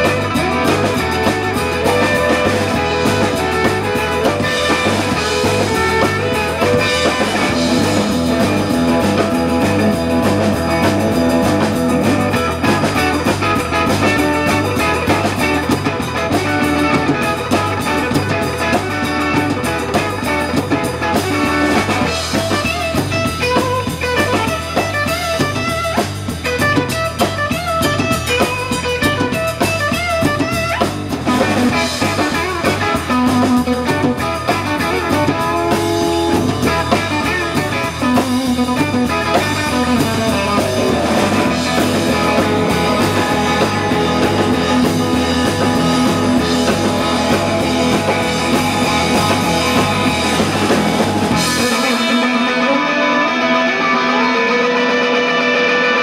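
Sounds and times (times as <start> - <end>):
drum kit beat: 0.0 - 55.5
bass guitar: 0.0 - 56.0
electric guitar: 0.0 - 56.0.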